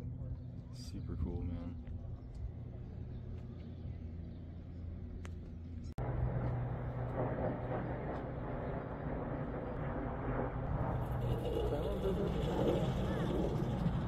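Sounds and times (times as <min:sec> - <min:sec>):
aircraft drone overhead: 0:00.0 - 0:14.0
low hum: 0:00.0 - 0:14.0.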